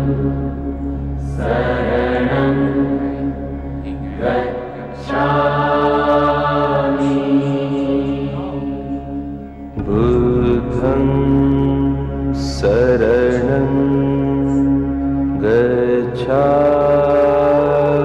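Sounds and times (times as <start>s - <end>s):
steady low drone: 0.0s - 18.0s
mantra chanted in held notes: 1.3s - 9.0s, 9.7s - 18.0s.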